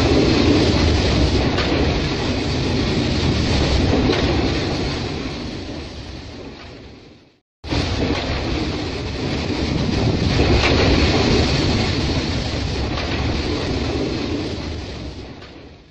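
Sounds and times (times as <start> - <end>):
train wheels and water spray rushing: 0.0 - 15.9.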